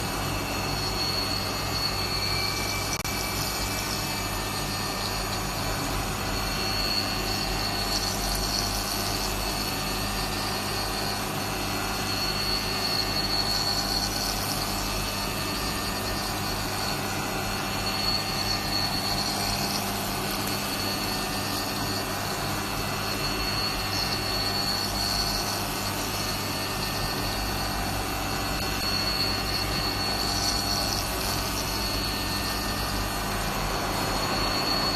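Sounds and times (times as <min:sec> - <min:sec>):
high machine whine: 0:00.0 - 0:34.9
milling machine humming: 0:00.0 - 0:34.9.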